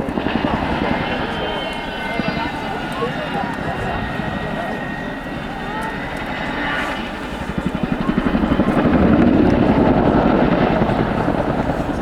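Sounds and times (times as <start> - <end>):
helicopter rotors thudding: 0.0 - 12.0.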